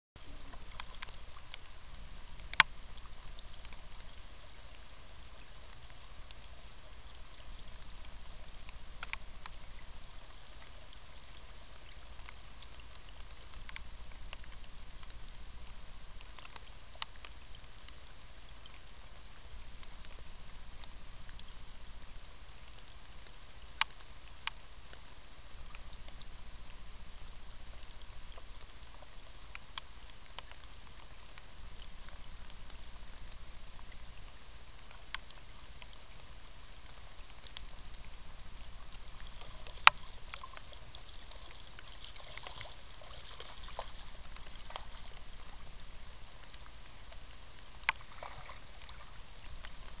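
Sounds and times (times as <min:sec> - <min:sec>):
rain on stream: 0:00.2 - 0:50.0
sharp drip ticks: 0:00.2 - 0:50.0.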